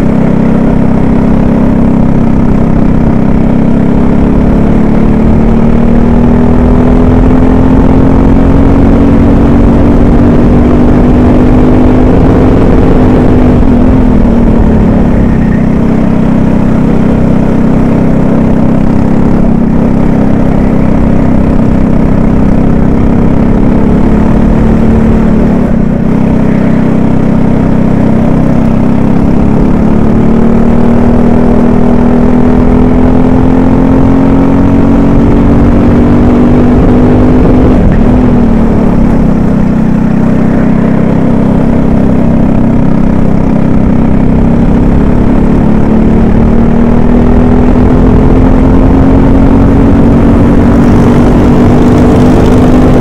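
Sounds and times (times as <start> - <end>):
racing kart engine revving: 0.0 - 53.0.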